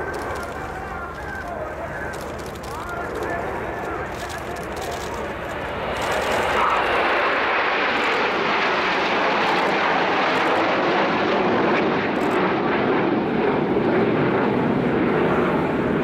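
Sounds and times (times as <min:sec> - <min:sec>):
jet engines overhead: 0:00.0 - 0:16.0.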